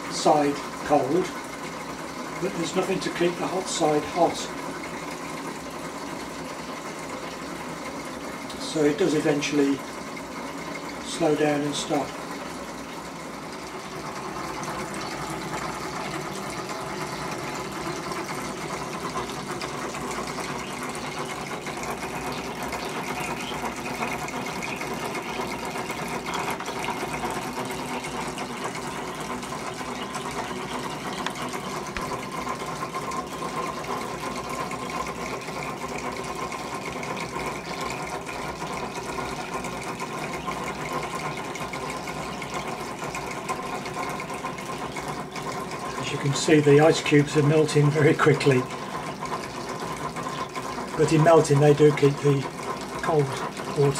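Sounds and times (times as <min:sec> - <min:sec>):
pulleys whirring: 0:00.0 - 0:53.9.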